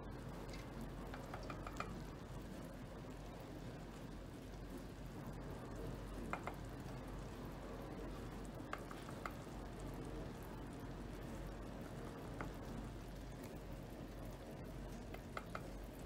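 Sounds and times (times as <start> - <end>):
jam bubbling in a pot: 0.0 - 16.0.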